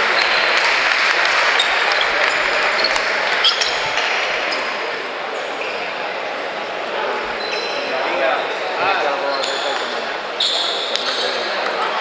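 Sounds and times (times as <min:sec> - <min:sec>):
background hubbub: 0:00.0 - 0:12.0.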